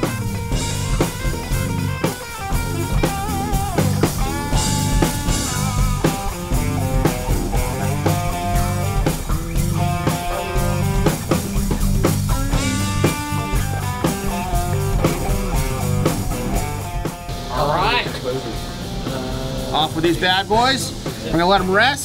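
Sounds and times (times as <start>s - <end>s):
electric guitar lead: 0.0s - 21.6s
bass guitar: 0.0s - 22.0s
drum kit beat: 0.0s - 22.0s.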